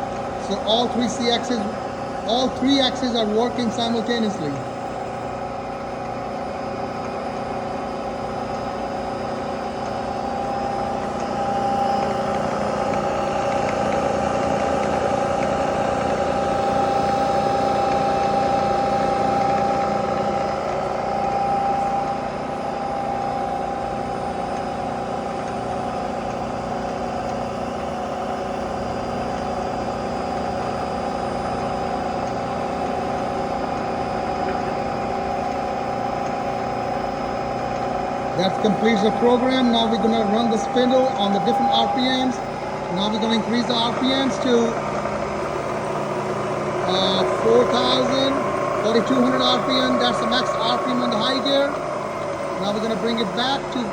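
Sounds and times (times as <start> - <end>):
milling machine whine: 0.0 - 53.9.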